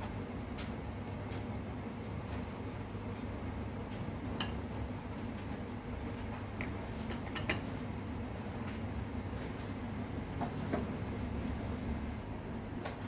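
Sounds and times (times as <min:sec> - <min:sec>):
pot simmering on a stove: 0:00.0 - 0:13.0.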